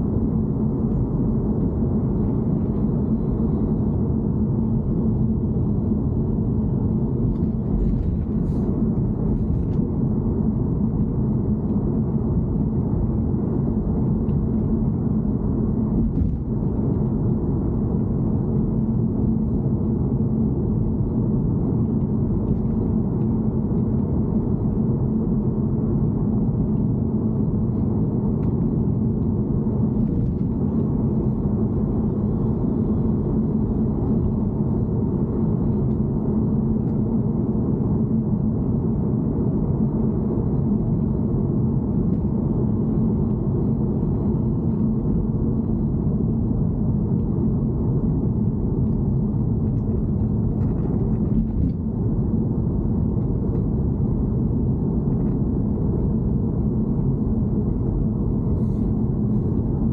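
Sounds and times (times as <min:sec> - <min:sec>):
car low rumble: 0:00.0 - 0:59.9
constant low hum: 0:00.0 - 0:59.9.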